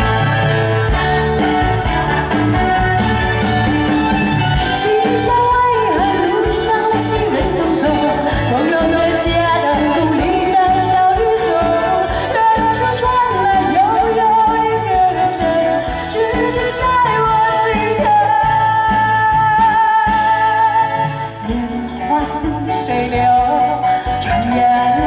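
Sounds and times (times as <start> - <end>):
live band: 0.0 - 25.0
woman singing a ballad: 4.6 - 25.0.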